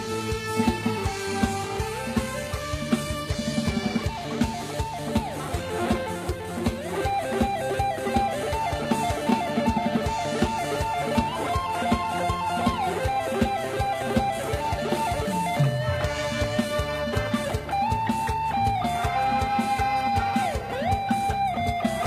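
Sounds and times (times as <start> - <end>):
bass: 0.0 - 22.0
electric plucked-string melody: 0.0 - 22.0
fast drum-kit beat: 0.0 - 22.0.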